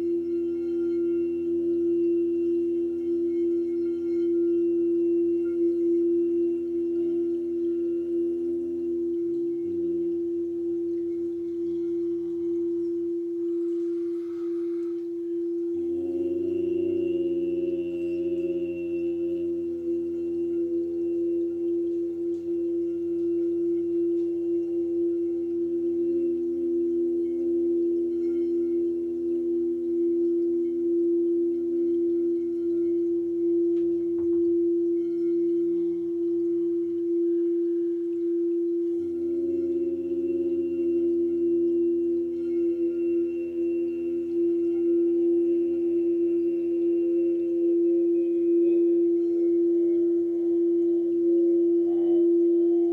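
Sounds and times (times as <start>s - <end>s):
low layered tones: 0.0s - 52.9s
meditative drone with overtones: 0.0s - 52.9s.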